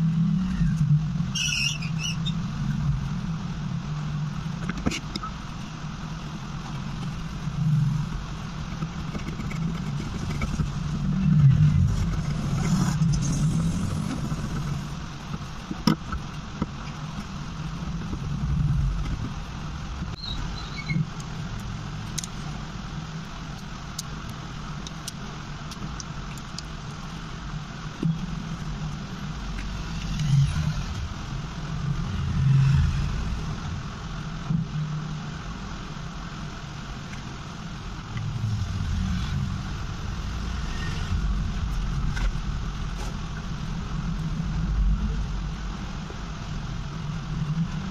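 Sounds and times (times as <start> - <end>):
low background rumble: 0.0 - 47.9.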